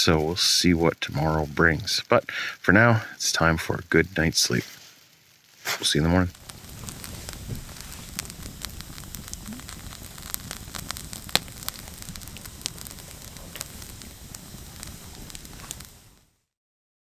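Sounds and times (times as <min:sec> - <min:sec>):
wood fire crackling: 0:00.0 - 0:16.4.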